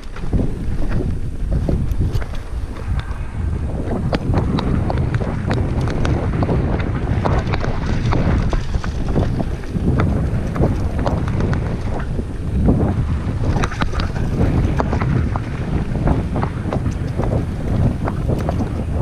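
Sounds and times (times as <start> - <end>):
bike rattling over bumps: 0.0 - 19.0
wind rumbling on microphone: 0.0 - 19.0.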